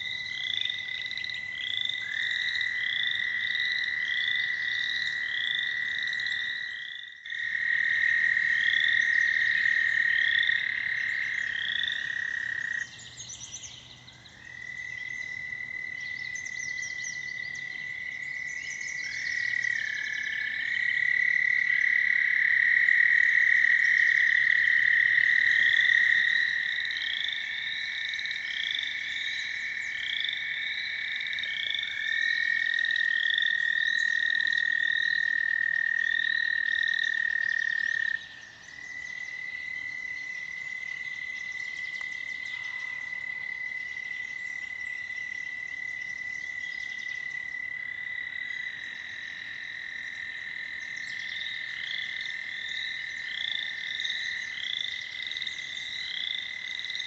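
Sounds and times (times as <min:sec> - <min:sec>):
toads trilling: 0:00.0 - 0:57.0.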